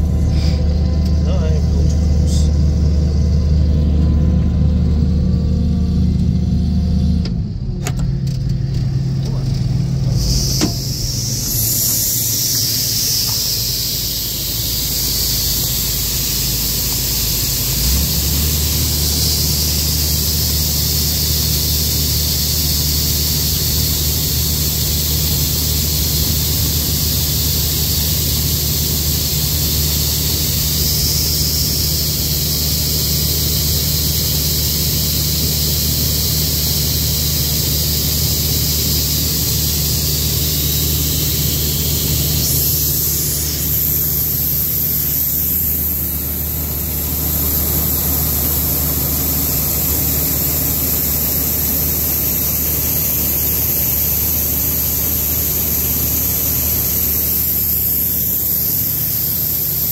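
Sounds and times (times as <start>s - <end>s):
hiss of air: 0.0s - 0.8s, 9.9s - 59.9s
combine harvester engine hum: 0.0s - 59.9s.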